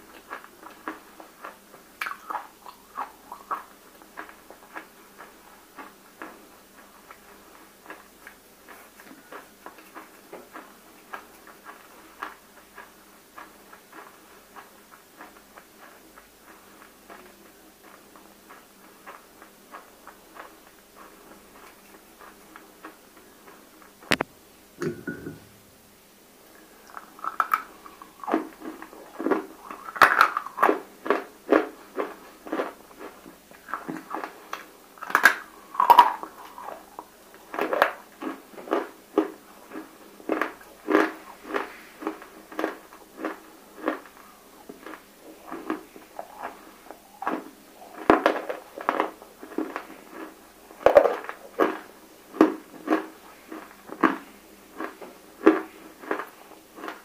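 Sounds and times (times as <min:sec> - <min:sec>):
wet crunchy chewing: 0:00.0 - 0:24.3, 0:26.9 - 0:57.0.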